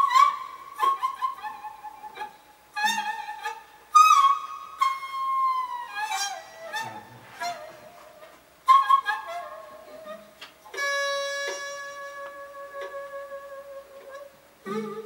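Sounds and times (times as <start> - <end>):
bamboo flute solo: 0.0 - 15.0.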